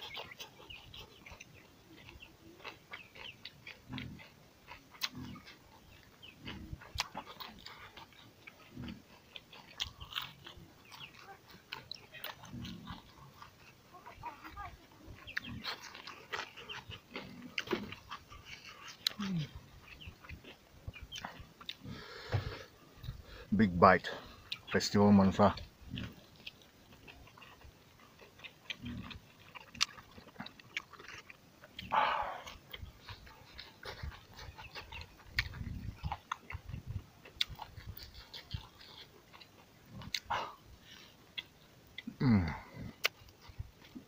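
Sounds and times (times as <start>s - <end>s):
person chewing with wet smacks: 0.0s - 44.0s.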